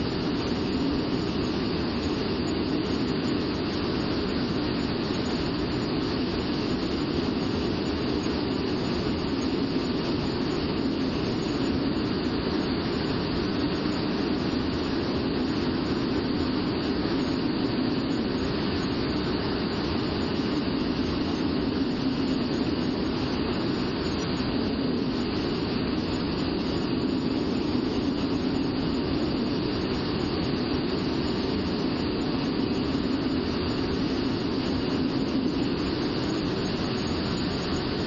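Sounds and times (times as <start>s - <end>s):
jet engine and airflow rush: 0.0s - 38.0s.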